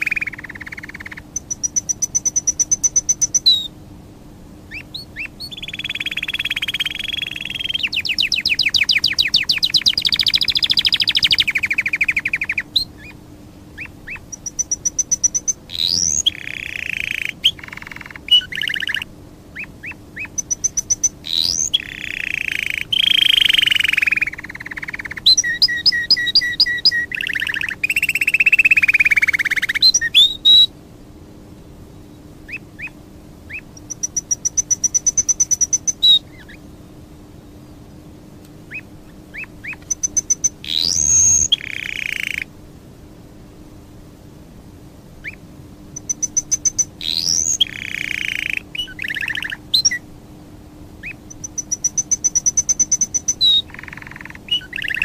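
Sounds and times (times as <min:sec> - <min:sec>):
faint steady hum: 0:00.0 - 0:55.0
songbird singing: 0:00.0 - 0:55.0.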